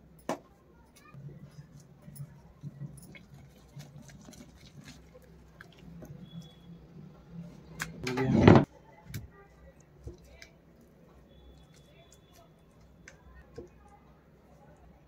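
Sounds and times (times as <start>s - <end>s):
hand squishing mixture: 1.1s - 8.0s, 9.0s - 15.0s
spoon stirring thick mixture: 1.2s - 7.8s, 9.4s - 15.0s.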